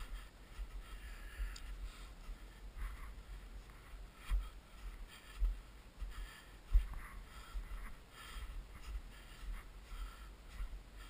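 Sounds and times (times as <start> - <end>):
footstep crunching in snow: 0.0 - 11.0.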